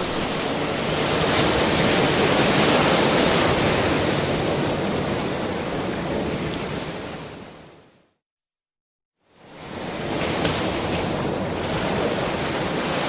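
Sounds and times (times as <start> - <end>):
ocean surf washing: 0.0 - 7.6, 9.4 - 13.0.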